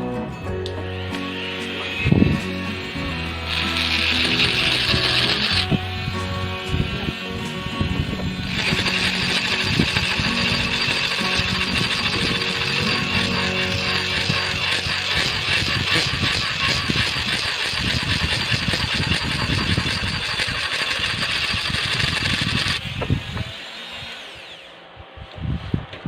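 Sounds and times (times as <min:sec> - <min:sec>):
rotary tool grinding metal: 0:00.6 - 0:25.9
tool spinning down: 0:01.1 - 0:24.8.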